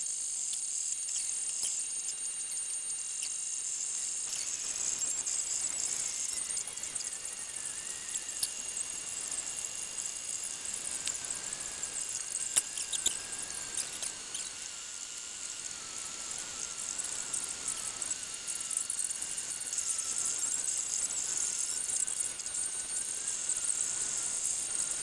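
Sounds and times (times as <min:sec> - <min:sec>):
printer machine whine: 0:00.0 - 0:25.0.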